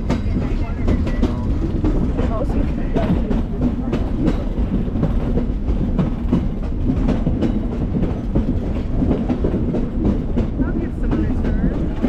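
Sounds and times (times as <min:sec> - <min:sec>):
train rumbling on track: 0:00.0 - 0:12.0
wheels clacking over rail joints: 0:00.0 - 0:12.0.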